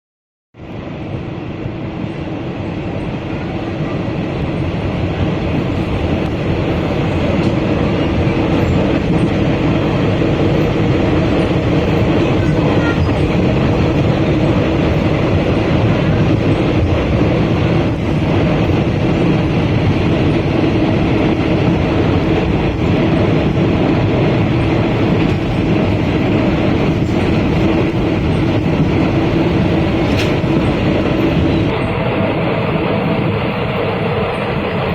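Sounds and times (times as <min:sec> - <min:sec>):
train wheels rumbling on rails: 0:00.6 - 0:34.9.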